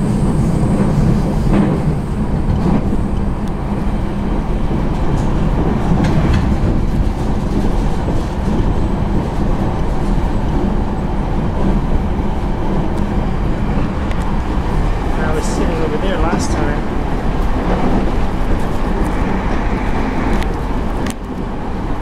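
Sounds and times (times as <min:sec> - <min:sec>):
train running rumble inside carriage: 0:00.0 - 0:22.0.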